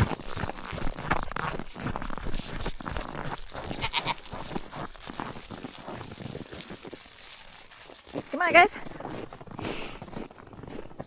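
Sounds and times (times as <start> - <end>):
footsteps crunching in snow: 0.0 - 11.0.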